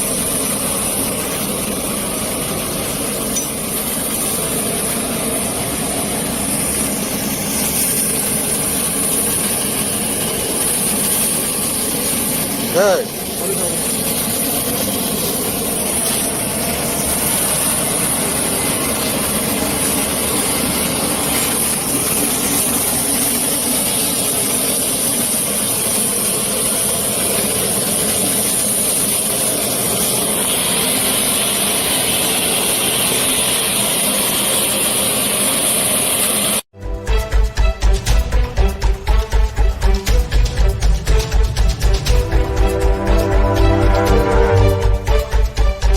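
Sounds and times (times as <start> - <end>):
aircraft turbine engines whining: 0.0 - 45.9.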